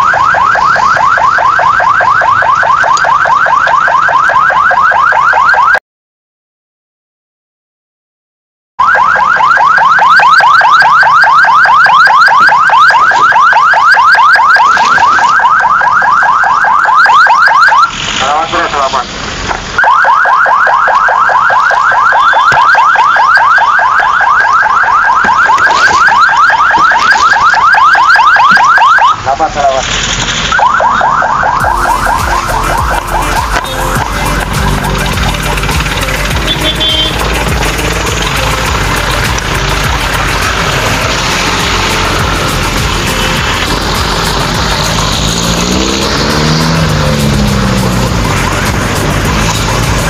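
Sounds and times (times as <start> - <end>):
ambulance siren: 0.0 - 5.8, 8.8 - 18.0, 19.8 - 29.4, 30.5 - 50.0.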